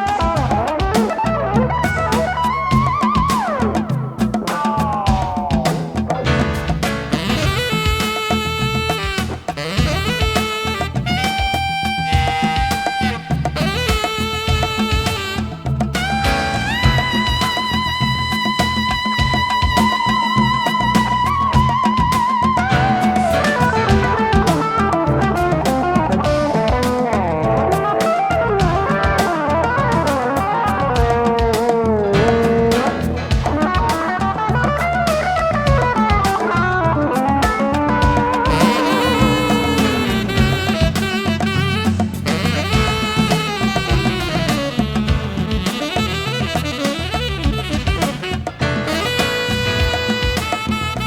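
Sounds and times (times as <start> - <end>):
saxophone melody: 0.0 - 4.0, 7.1 - 51.0
bass: 0.0 - 51.0
electric guitar lead: 0.0 - 51.0
steady drum beat: 0.0 - 51.0.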